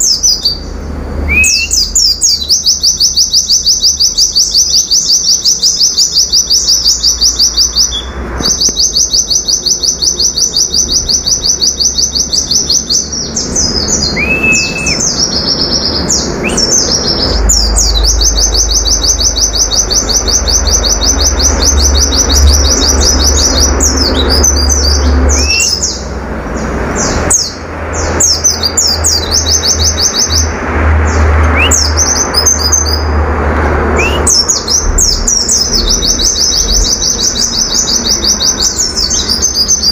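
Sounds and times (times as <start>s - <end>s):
low whistled bird notes: 0.0s - 26.1s, 31.5s - 33.1s, 33.8s - 39.9s
bird singing fast trills: 0.0s - 33.2s, 33.8s - 39.9s
sweeping bird chirps: 0.0s - 39.9s.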